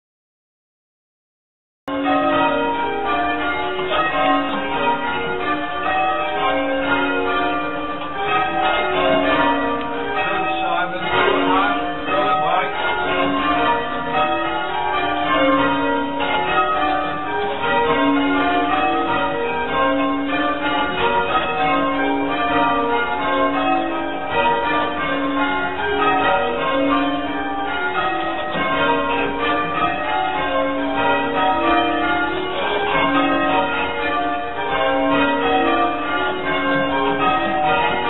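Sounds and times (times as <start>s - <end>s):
church bells change ringing: 1.9s - 38.0s.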